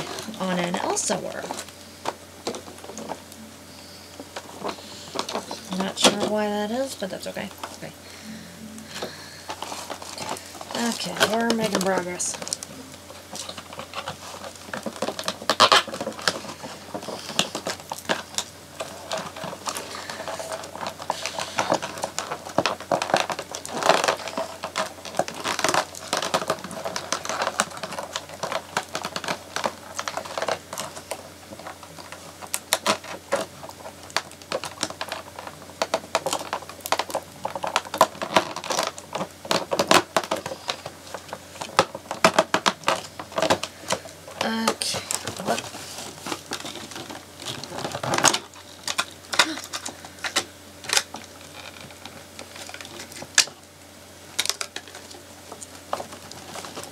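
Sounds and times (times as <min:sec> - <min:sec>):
cardboard packaging crinkling: 0:00.0 - 0:56.9.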